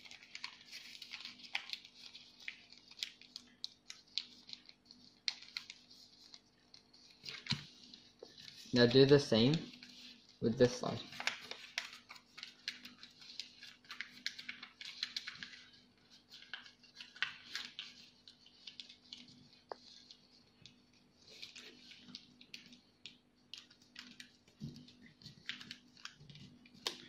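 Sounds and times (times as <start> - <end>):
paper rustling and crinkling: 0.0 - 27.0.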